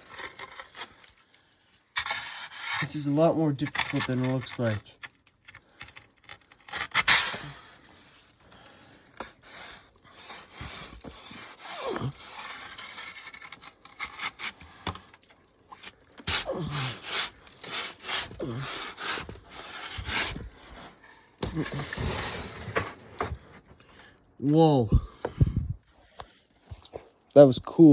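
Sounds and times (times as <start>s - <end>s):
paddle striking and scraping ice: 0.0s - 8.3s, 9.0s - 23.8s.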